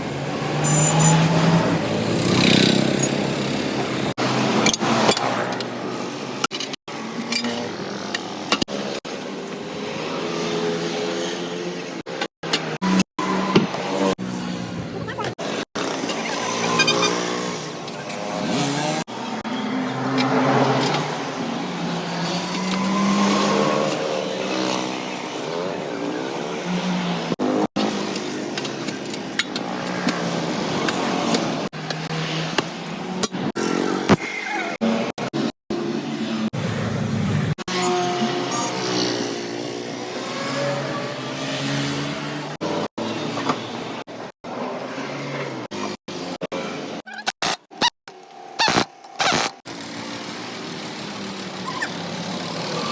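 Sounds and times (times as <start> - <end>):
street noise: 0.0 - 52.9.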